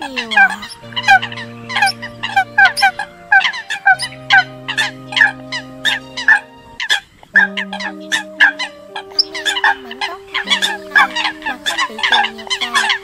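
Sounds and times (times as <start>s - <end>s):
coots calling: 0.0s - 13.0s
steady low drone: 0.1s - 13.0s.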